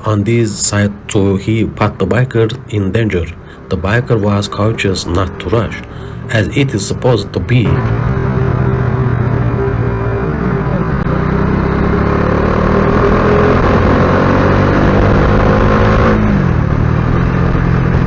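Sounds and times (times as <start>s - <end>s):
wind and road noise: 0.0s - 18.0s
motorcycle engine accelerating: 3.4s - 18.0s.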